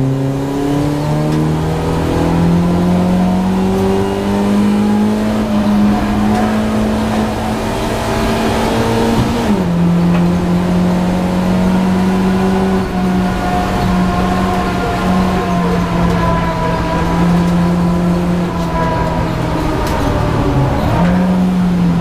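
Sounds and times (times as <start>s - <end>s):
race car engine under load: 0.0s - 22.0s.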